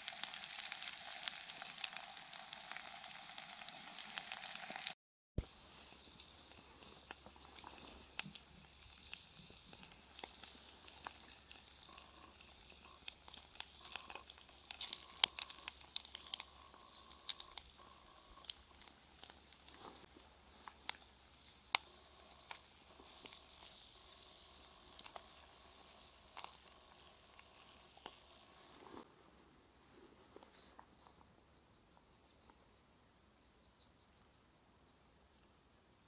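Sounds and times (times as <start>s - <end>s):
chicken frying with crackling pops: 0.0s - 29.1s.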